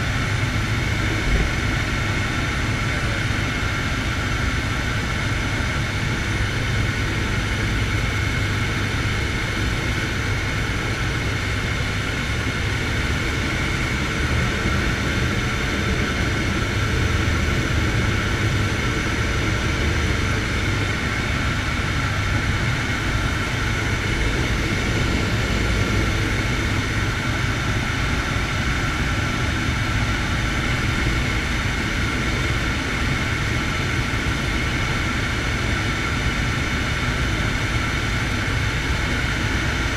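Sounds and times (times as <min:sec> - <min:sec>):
propeller drone: 0:00.0 - 0:39.9
turbine engine whine: 0:00.0 - 0:39.9.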